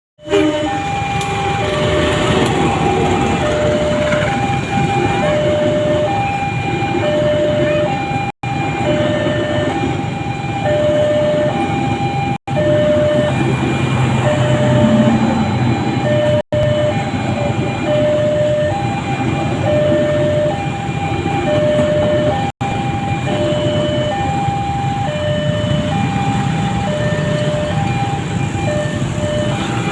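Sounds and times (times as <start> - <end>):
train rumbling past: 0.2 - 10.7, 11.3 - 29.9
two-tone crossing alarm: 0.2 - 29.9.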